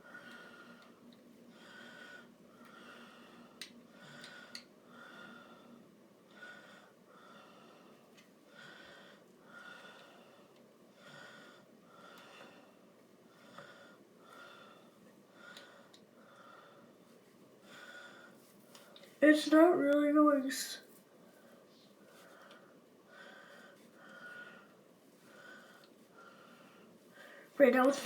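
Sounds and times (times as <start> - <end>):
nasal breathing: 0.0 - 19.2, 21.2 - 27.6.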